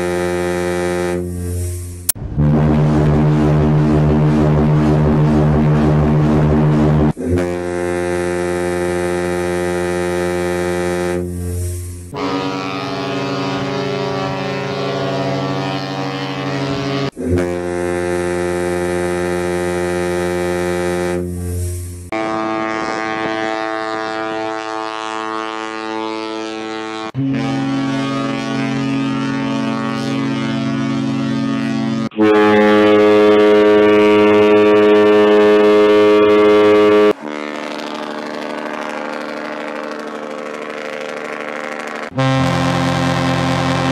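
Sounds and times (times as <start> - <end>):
deep ship's whistle blasts: 0.0 - 1.4, 7.1 - 21.5, 22.1 - 43.9
ship's horn: 0.0 - 43.9.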